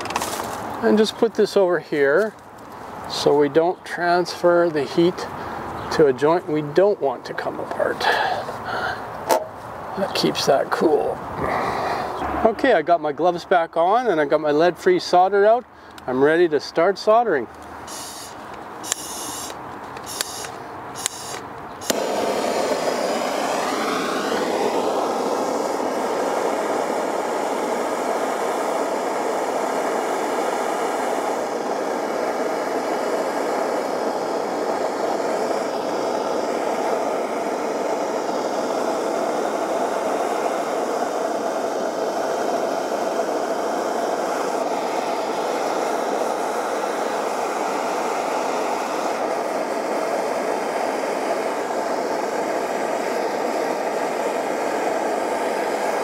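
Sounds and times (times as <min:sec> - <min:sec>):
torch flame rushing: 0:00.0 - 0:12.8, 0:17.7 - 0:56.0.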